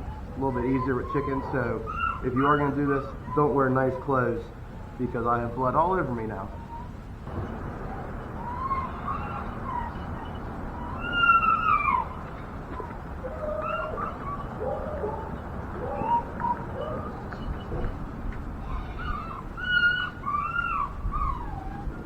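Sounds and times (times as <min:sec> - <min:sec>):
animals calling: 0:00.0 - 0:22.0.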